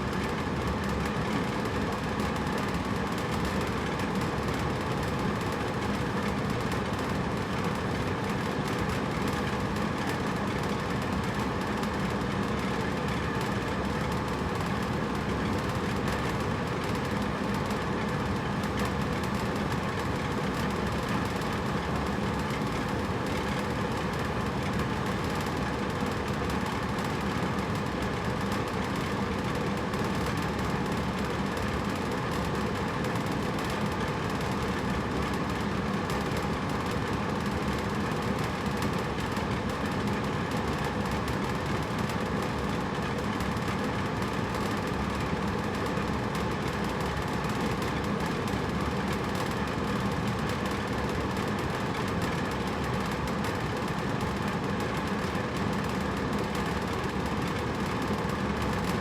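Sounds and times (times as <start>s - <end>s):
air conditioner blowing air: 0.0s - 59.0s.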